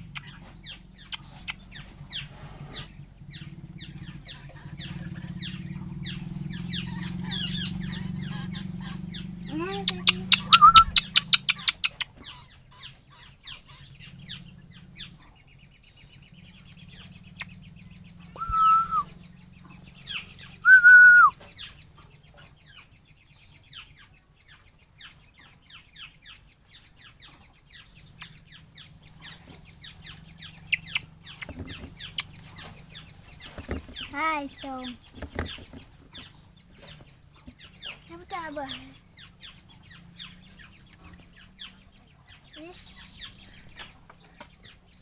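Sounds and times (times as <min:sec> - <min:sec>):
birds chirping: 0:00.0 - 0:45.0
loud long bird calls: 0:00.0 - 0:45.0.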